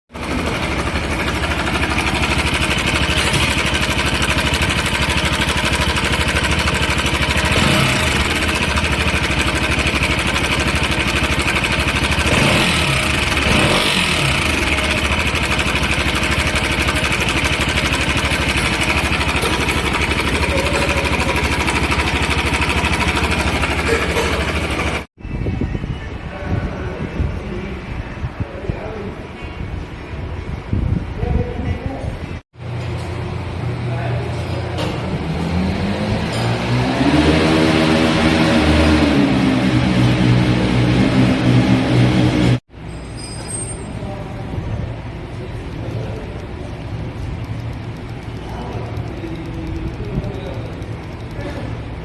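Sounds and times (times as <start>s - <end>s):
motorcycle engine revving: 0.2s - 25.1s, 32.6s - 42.6s, 44.3s - 52.0s.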